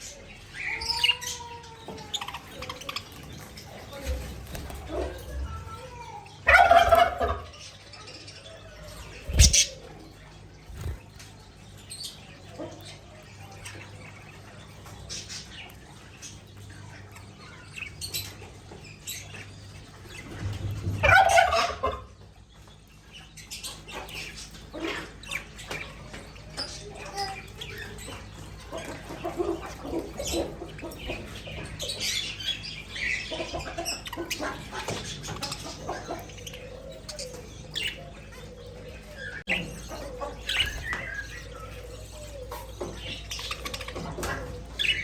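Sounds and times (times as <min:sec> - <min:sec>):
budgerigars chirping and chattering: 0:00.0 - 0:45.0.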